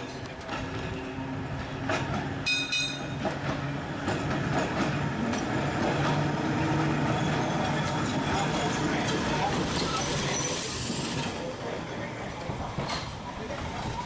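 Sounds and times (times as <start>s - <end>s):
tram humming: 0.0s - 14.0s
wheels clicking and rattling on rails: 0.0s - 14.0s.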